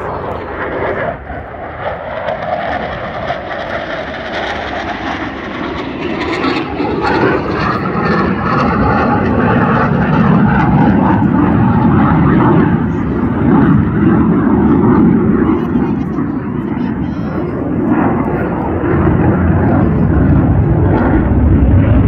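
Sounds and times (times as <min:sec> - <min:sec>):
jet flying overhead: 0:00.0 - 0:22.0.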